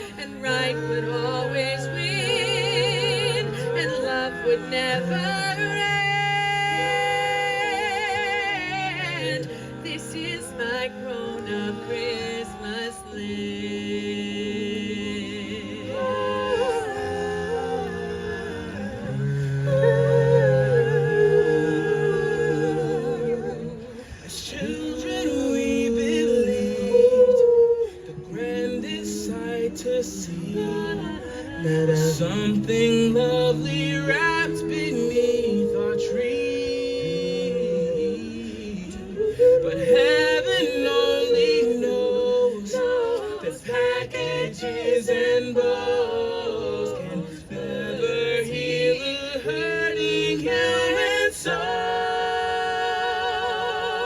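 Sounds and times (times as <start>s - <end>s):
vocal group singing in harmony: 0.0s - 54.0s.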